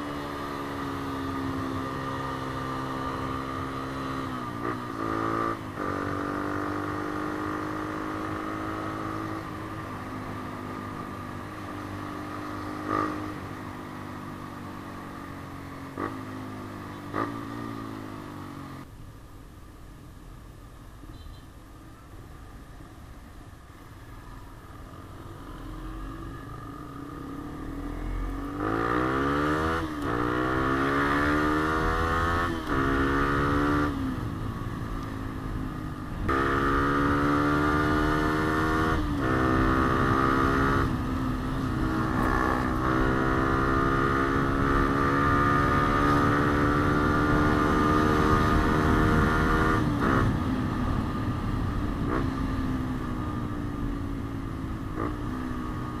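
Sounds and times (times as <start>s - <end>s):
motorcycle engine accelerating: 0.0s - 18.9s, 25.3s - 56.0s.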